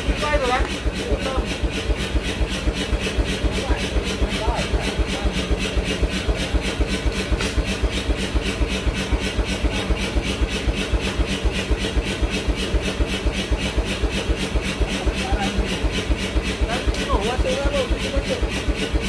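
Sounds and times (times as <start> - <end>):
machine thudding rhythmically: 0.0 - 19.0.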